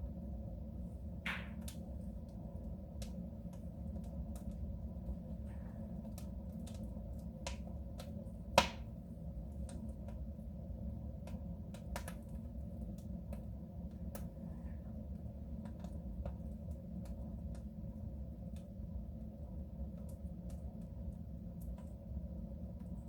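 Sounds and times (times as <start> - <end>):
wood fire crackling and popping: 1.1 - 23.0.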